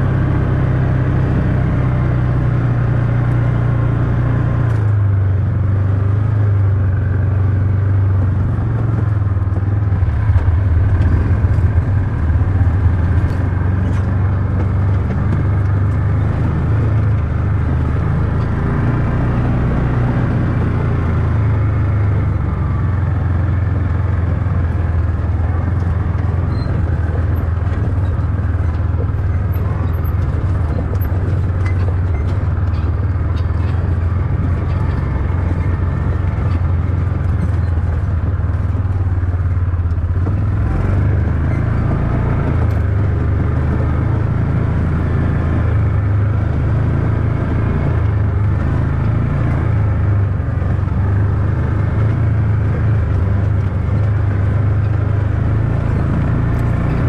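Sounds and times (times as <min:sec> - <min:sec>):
off-road vehicle engine humming: 0:00.0 - 0:57.0.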